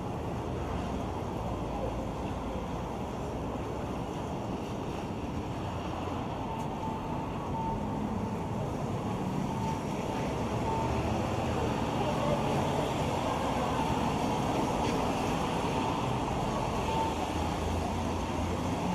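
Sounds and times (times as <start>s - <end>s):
traffic on a wet road: 0.0s - 18.9s.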